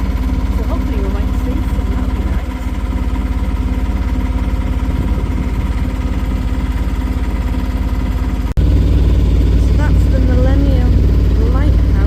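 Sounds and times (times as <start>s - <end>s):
boat engine throbbing: 0.0s - 12.0s.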